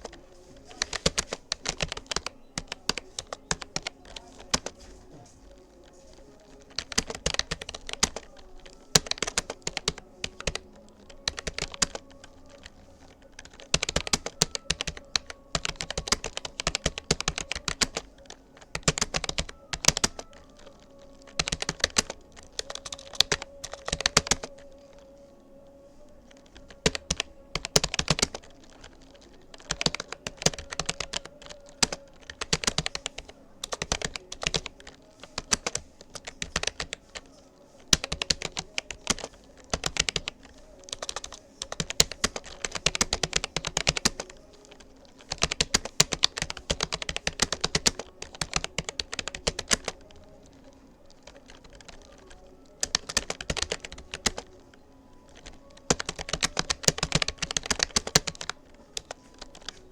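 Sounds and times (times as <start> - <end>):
computer keyboard typing: 0.0 - 59.9.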